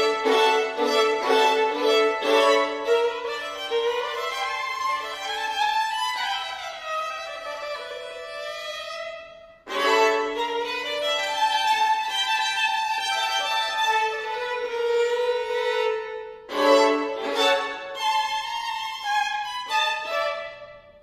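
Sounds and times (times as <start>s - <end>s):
two violins playing: 0.0s - 21.0s.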